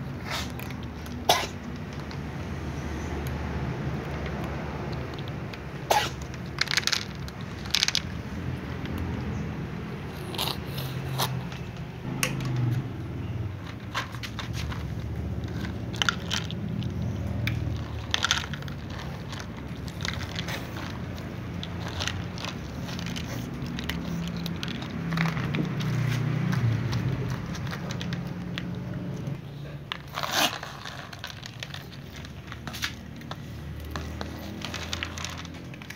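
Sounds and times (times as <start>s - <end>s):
cats crunching dry kibble: 0.0s - 35.9s.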